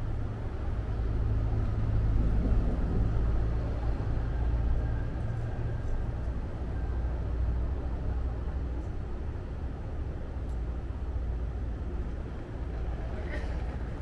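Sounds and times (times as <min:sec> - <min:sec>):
tram rumbling along track: 0:00.0 - 0:14.0.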